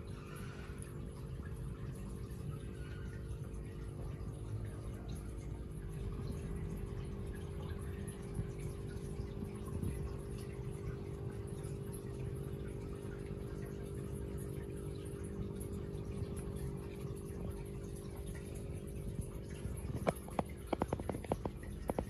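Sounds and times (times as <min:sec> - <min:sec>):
water pump humming: 0:00.0 - 0:22.0
water trickling and dripping: 0:00.0 - 0:22.0.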